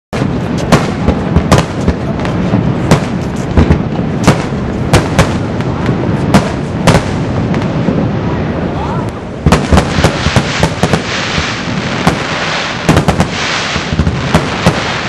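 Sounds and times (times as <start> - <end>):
fireworks bangs: 0.1 - 15.0.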